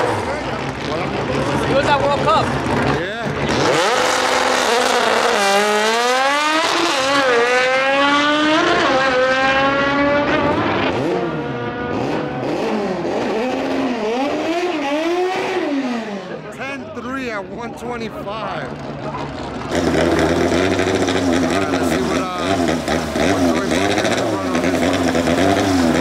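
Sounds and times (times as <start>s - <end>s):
car engine accelerating hard: 0.0s - 16.9s, 18.6s - 26.0s.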